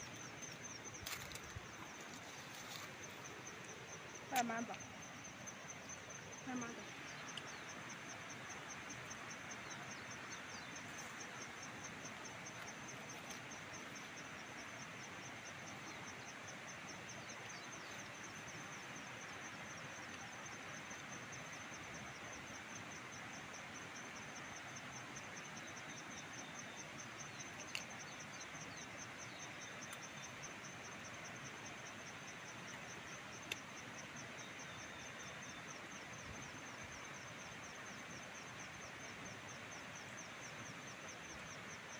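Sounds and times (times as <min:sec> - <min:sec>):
insect trill: 0:00.0 - 0:41.9.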